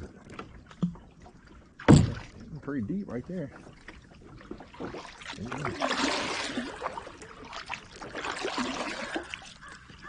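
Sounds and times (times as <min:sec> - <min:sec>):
kayak paddle splashing: 0:00.0 - 0:10.0.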